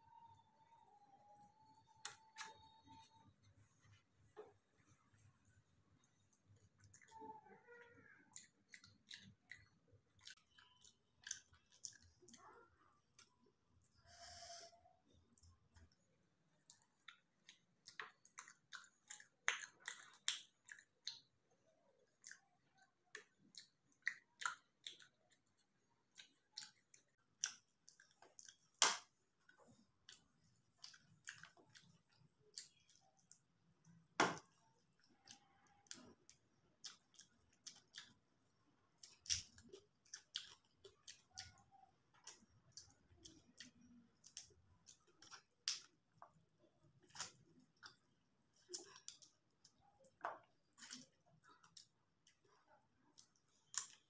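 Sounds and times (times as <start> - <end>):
chewing with wet mouth clicks: 6.0 - 7.2, 8.1 - 13.9, 15.2 - 54.0.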